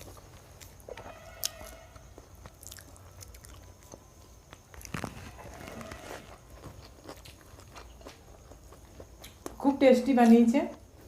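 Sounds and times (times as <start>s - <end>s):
chewing and biting food: 0.0s - 9.6s.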